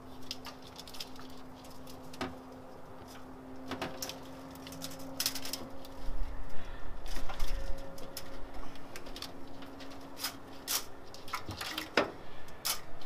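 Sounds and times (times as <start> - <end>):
faint steady hum: 0.0 - 13.0
hand handling sounds: 0.0 - 13.0.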